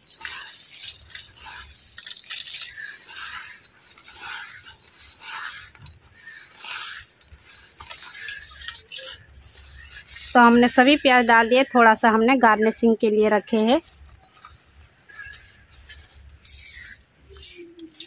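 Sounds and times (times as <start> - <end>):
fingers scraping on metal: 0.0 - 11.7, 13.5 - 18.0
fried onions crackling: 0.0 - 12.1, 13.4 - 18.0.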